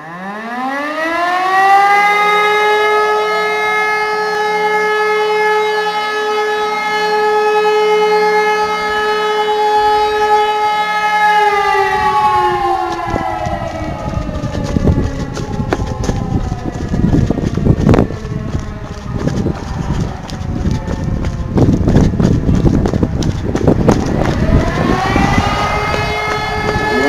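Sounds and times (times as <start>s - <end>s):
mechanical sirens howling: 0.0s - 27.0s.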